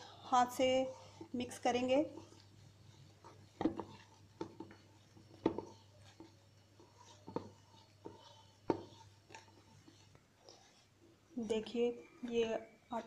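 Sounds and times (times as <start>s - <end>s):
dough slapping and squelching: 0.0s - 13.0s.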